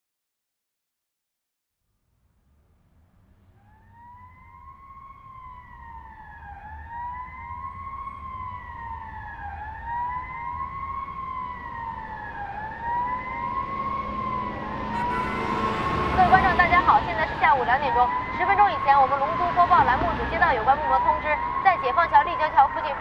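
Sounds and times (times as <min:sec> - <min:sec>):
emergency siren wailing: 0:03.5 - 0:23.0.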